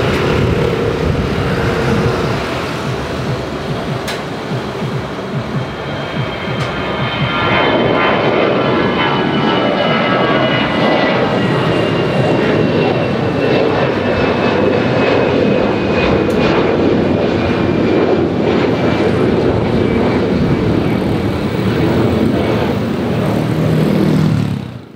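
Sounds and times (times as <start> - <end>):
jet engines rushing and whining: 0.0 - 24.9.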